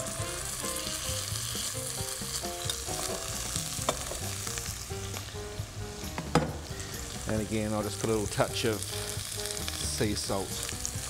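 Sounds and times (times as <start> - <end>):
mushrooms frying in butter: 0.0 - 11.0
steaks sizzling in a frying pan: 0.0 - 11.0.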